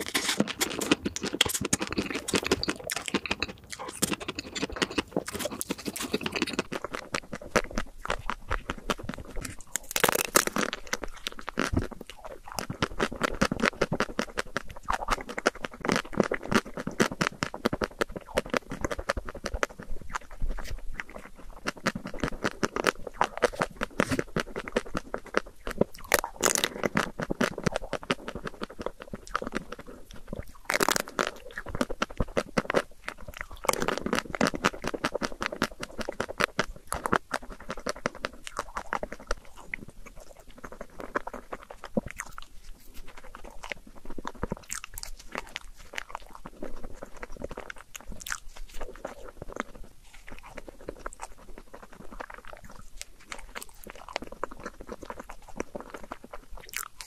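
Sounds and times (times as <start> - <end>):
chewing and crunching: 0.0 - 57.0
soft mouth sounds: 0.0 - 57.0.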